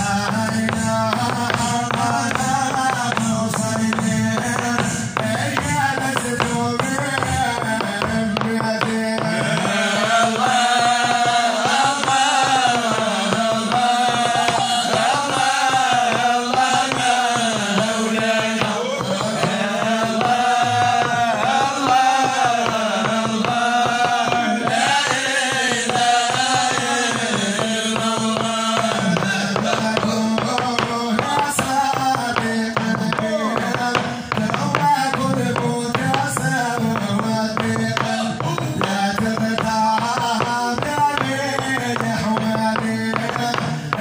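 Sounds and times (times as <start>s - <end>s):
men chanting through microphones: 0.0s - 44.0s
quick rhythmic tapping: 0.0s - 44.0s.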